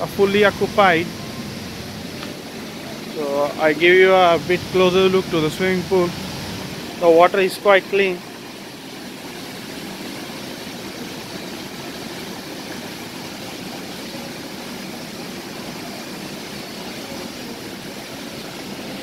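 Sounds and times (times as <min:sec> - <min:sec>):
water rushing over cascade: 0:00.0 - 0:19.0.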